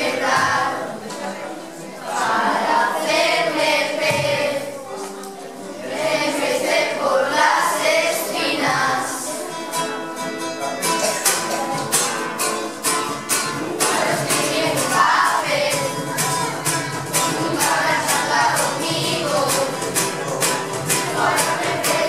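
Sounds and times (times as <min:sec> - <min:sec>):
children singing: 0:00.0 - 0:09.8, 0:13.3 - 0:22.0
acoustic guitar strumming: 0:00.0 - 0:22.0.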